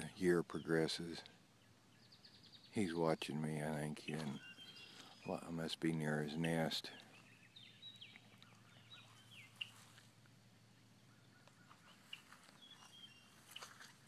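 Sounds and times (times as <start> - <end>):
birds chirping and whistling: 0.5 - 9.8, 11.1 - 13.8.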